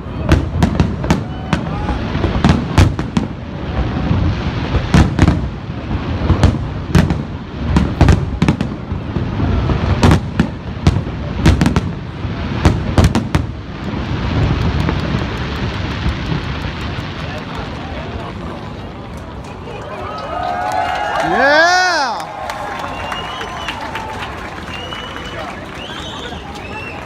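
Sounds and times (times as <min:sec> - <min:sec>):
fireworks bangs: 0:00.0 - 0:19.8, 0:20.6 - 0:27.0
fireworks crackling pops: 0:00.0 - 0:27.0.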